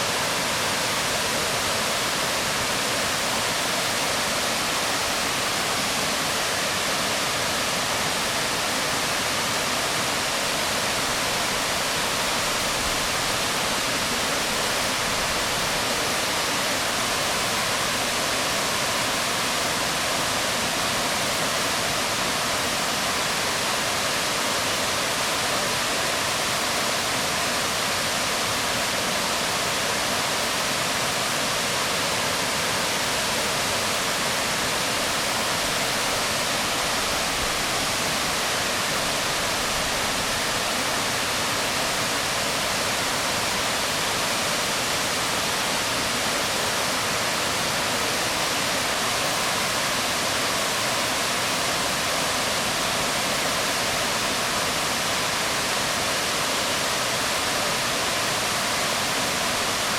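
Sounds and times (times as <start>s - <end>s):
waterfall onto rocks: 0.0s - 59.9s.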